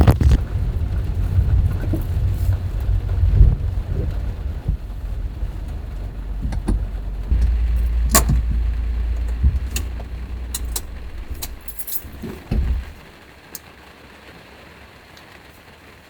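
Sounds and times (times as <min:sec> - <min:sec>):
low vehicle rumble: 0:00.0 - 0:13.5.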